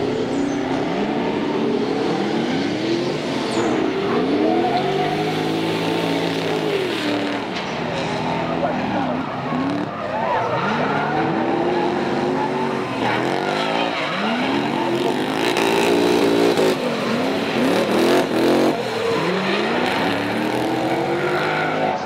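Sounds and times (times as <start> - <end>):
car engines revving hard: 0.0 - 22.0
tyres skidding: 0.0 - 22.0.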